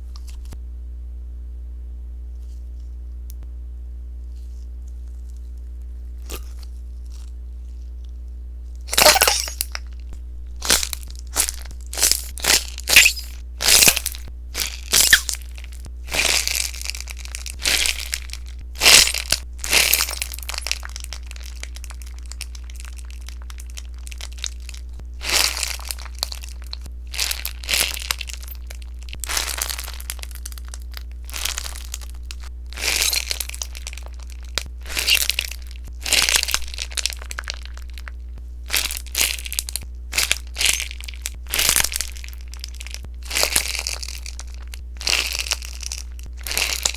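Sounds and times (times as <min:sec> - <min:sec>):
slime crackling and popping: 0:08.8 - 0:46.9.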